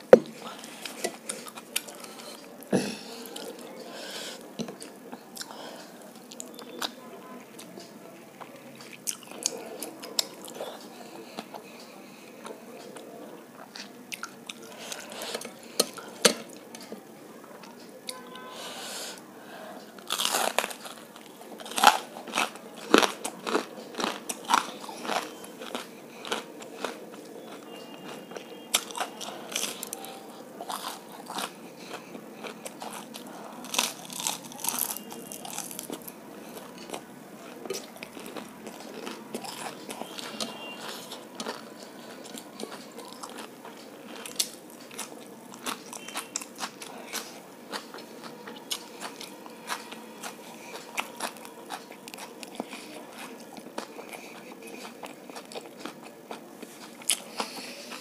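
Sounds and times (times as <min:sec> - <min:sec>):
crunchy fried food chewing: 0:00.0 - 0:03.8, 0:07.6 - 0:18.5, 0:19.2 - 0:58.0.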